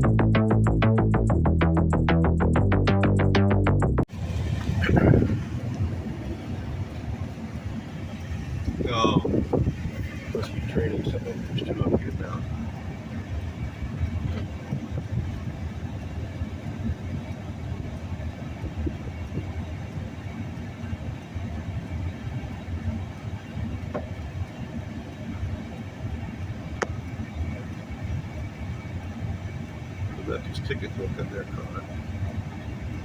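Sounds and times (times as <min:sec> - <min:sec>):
vehicle rumbling: 0:00.0 - 0:33.0.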